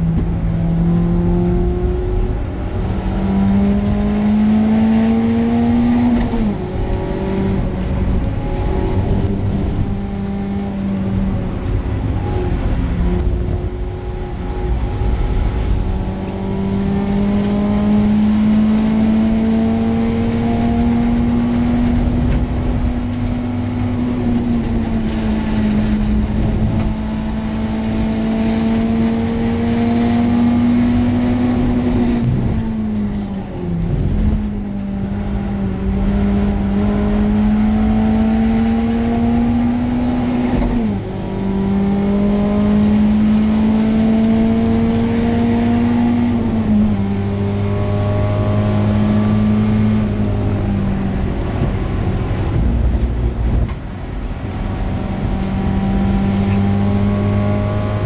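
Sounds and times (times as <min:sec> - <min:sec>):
car engine revving: 0:00.0 - 0:58.0
tyre and road noise: 0:00.0 - 0:58.0.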